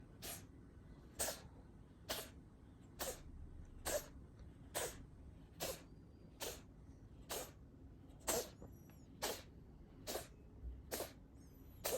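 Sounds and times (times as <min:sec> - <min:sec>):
cat coughing: 0:00.2 - 0:00.5, 0:01.1 - 0:02.4, 0:03.0 - 0:07.6, 0:08.2 - 0:11.9.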